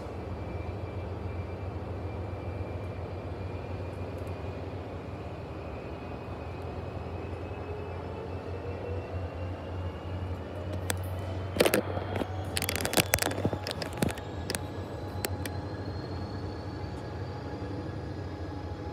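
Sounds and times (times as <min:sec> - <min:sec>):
diesel locomotive engine drone: 0:00.0 - 0:18.9.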